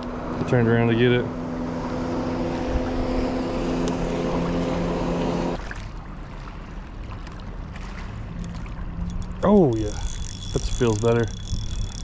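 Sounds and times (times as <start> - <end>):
motorboat engine droning: 0.0 - 12.0
water: 0.0 - 12.0
wind: 0.0 - 12.0.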